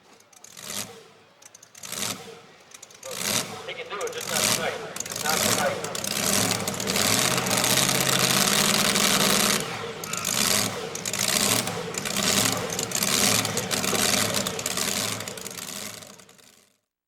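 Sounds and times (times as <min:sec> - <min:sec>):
racing engine at high revs: 0:00.0 - 0:16.6.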